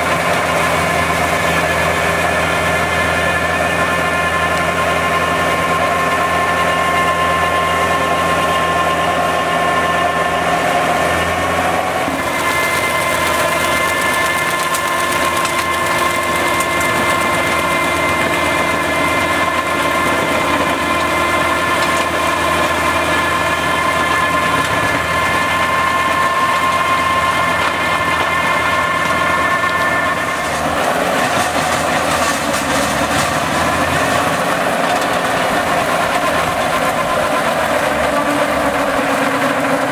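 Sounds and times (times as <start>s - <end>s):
forestry mulcher shredding brush: 0.0s - 39.9s.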